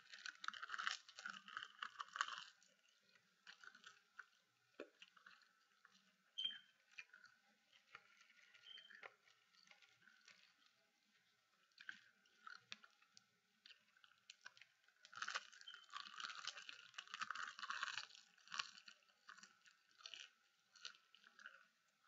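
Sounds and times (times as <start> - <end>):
crisp snack crackling when chewed: 0.0 - 22.0.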